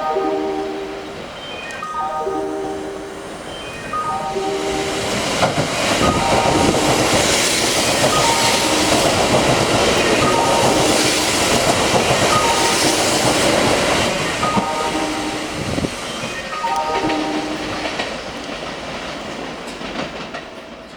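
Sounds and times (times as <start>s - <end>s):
electric train roaring: 0.0s - 20.9s.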